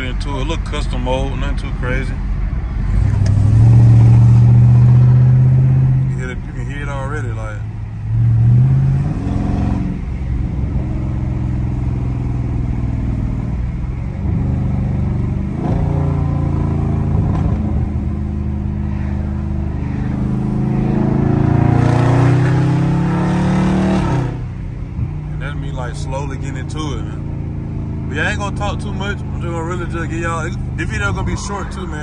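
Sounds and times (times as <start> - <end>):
car exhaust revving: 2.8 - 32.0.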